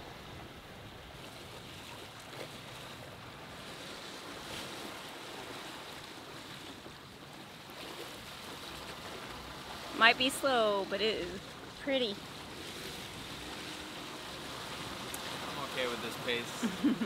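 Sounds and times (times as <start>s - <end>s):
water rushing along a boat hull: 0.0s - 17.0s.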